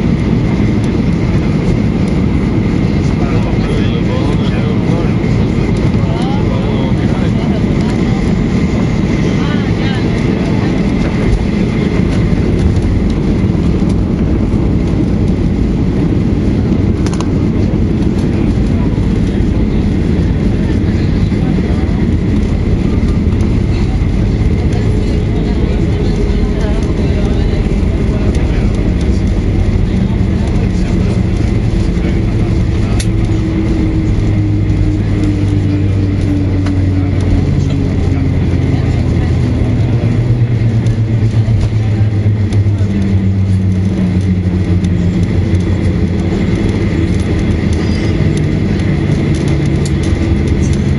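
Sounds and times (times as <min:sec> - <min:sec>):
airplane cabin rumble: 0:00.0 - 0:50.9.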